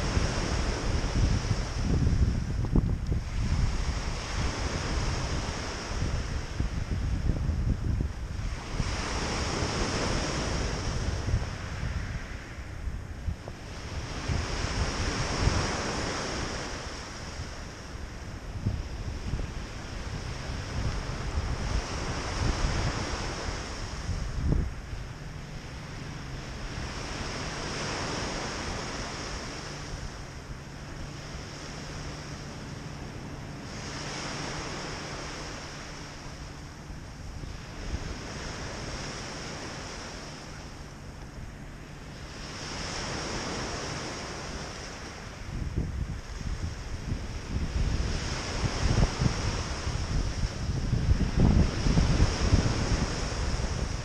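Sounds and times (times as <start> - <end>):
wind buffeting microphone: 0.0 - 54.0
waves washing up pebble beach: 3.2 - 41.0, 42.1 - 54.0.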